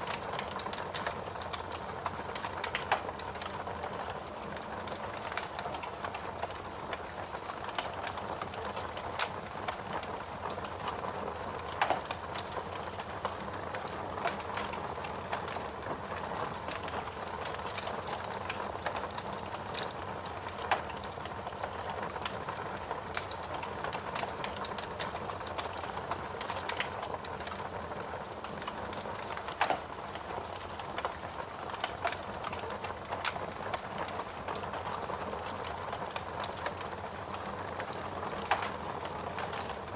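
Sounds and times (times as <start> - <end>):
log fire crackling: 0.0 - 39.9
fire snapping loudly: 0.1 - 39.9.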